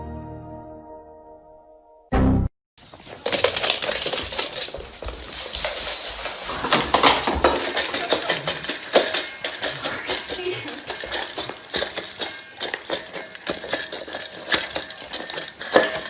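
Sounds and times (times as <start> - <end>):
crunching and crackling: 2.8 - 16.0.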